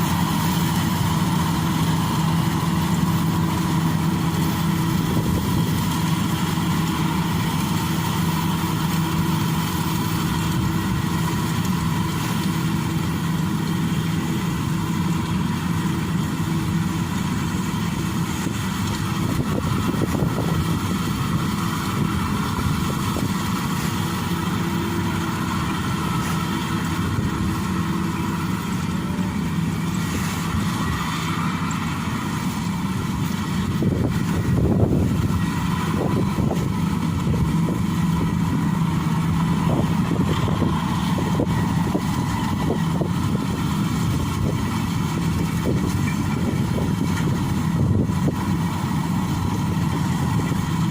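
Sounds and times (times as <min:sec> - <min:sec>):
combine harvester engine drone: 0:00.0 - 0:50.9.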